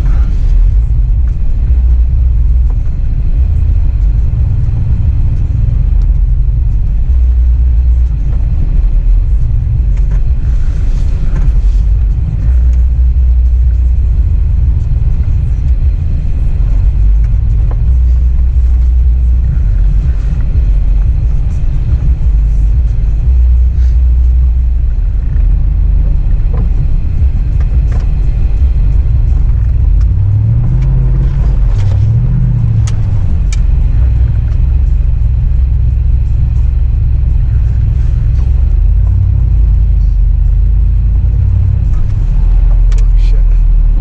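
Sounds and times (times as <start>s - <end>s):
truck engine rumbling: 0.0s - 44.0s.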